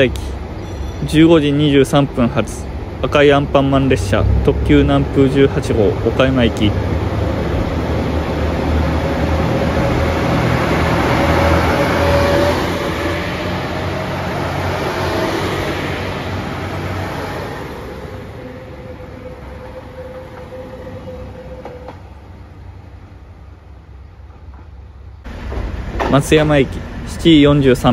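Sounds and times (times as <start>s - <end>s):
diesel train engine whine: 0.0s - 27.9s
wheel and rail noise: 4.0s - 27.9s.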